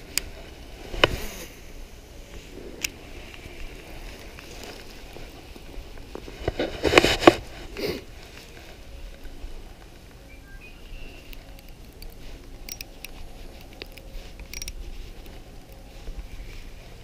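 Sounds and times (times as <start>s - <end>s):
rustling handling noise: 2.1s - 17.0s.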